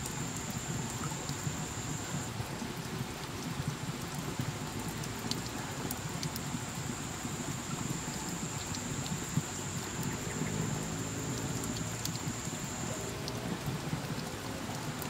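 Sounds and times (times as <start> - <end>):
water dripping on rock and leaves: 0.0 - 15.0.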